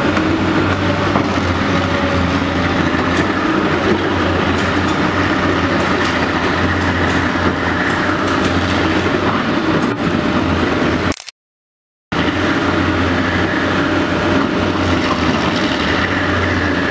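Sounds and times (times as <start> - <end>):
excavator diesel engine running: 0.0 - 11.3, 12.1 - 16.9.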